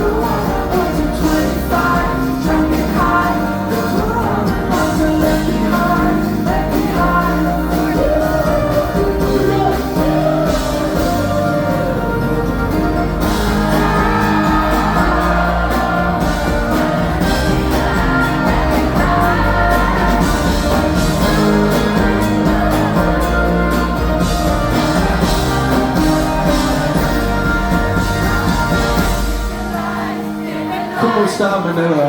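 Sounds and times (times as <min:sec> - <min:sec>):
bass: 0:00.0 - 0:30.6
sung or synth melody: 0:00.0 - 0:31.1
drums: 0:00.0 - 0:32.0
guitar: 0:00.0 - 0:32.0.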